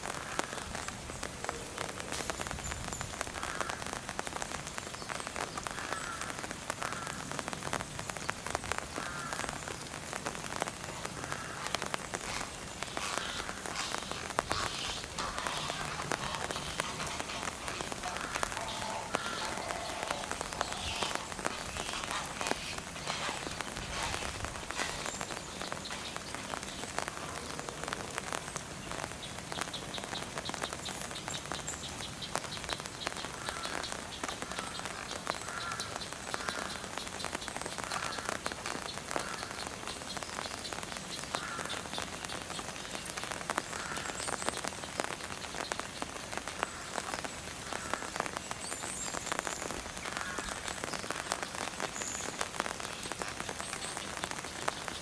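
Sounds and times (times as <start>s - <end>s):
raindrops clicking close by: 0.0s - 55.0s
steady rain falling: 0.0s - 55.0s.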